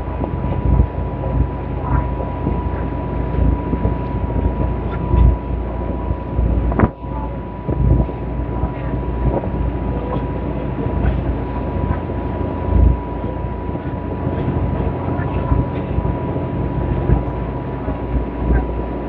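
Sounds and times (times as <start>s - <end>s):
ship engine deep rumble: 0.0s - 19.0s
thin steady whine: 0.0s - 19.0s
wind buffeting microphone: 0.0s - 19.0s.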